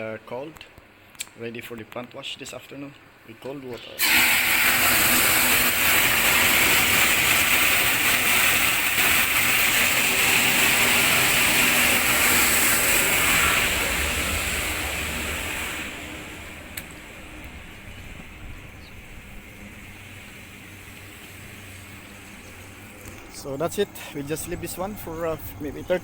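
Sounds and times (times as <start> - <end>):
water gushing into a tank: 4.0 - 26.0.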